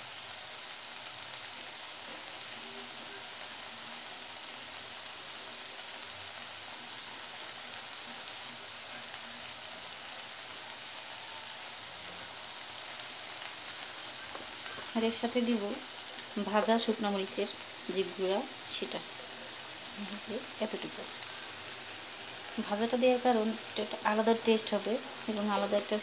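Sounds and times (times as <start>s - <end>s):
pickle sizzling in oil: 0.0s - 26.0s.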